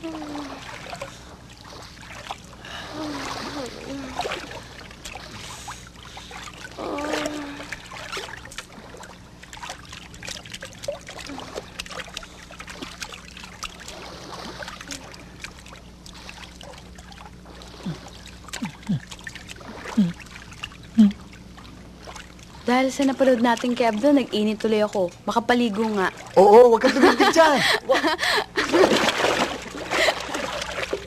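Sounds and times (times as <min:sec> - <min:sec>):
steady low hum: 0:00.0 - 0:31.0
water splashing around a boat: 0:00.0 - 0:31.0.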